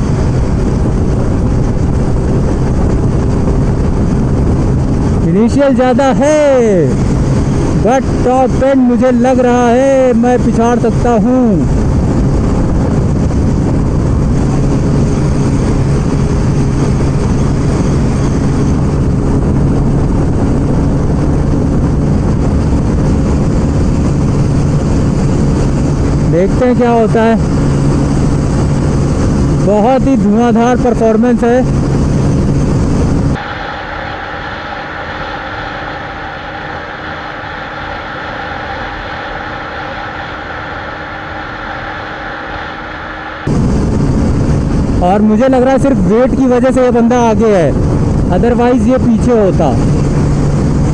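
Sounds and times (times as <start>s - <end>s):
motorcycle engine at full throttle: 0.0s - 50.9s
wind rushing over microphone: 0.0s - 50.9s.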